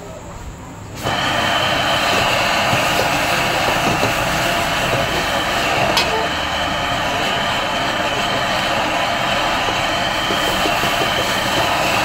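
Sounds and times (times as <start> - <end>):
gas burner flaring: 0.0 - 12.0
water hissing to steam in wok: 1.0 - 12.0.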